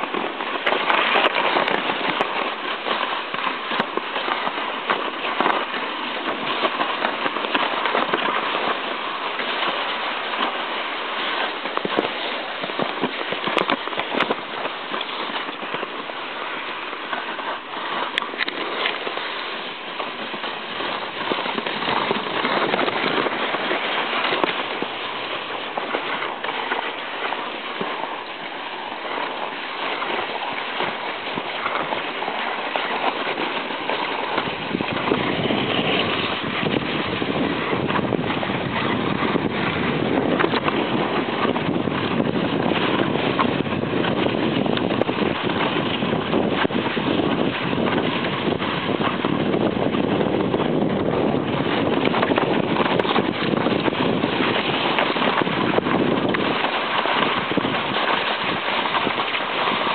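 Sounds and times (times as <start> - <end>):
sledge runners scraping on snow: 0.0 - 59.9
wind on microphone: 0.0 - 59.9.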